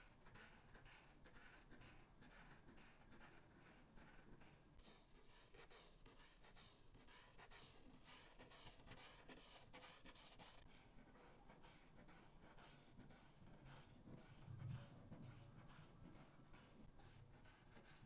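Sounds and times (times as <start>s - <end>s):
marker scratching on paper: 1.3s - 18.0s.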